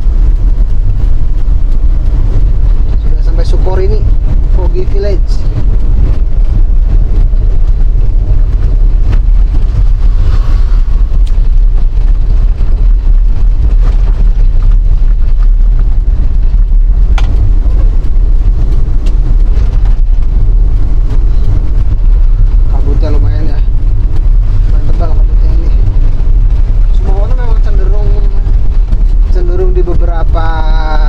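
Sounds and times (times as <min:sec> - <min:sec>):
car rumbling downhill: 0:00.0 - 0:31.0.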